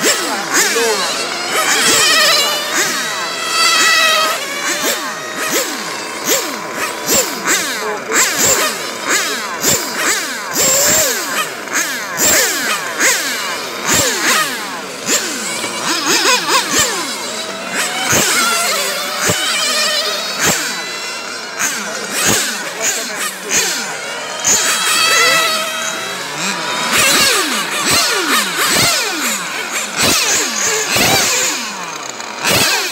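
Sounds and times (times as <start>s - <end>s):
rc car motors whining: 0.0s - 32.9s.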